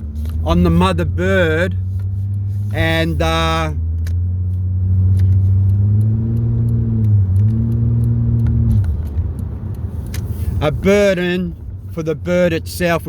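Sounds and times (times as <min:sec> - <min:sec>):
car engine under load: 0:00.0 - 0:13.0.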